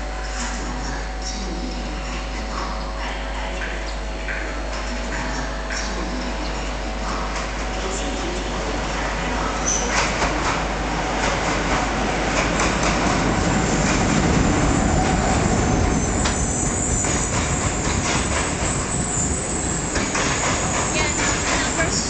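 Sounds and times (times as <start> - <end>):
train rumbling past: 4.3 - 22.0.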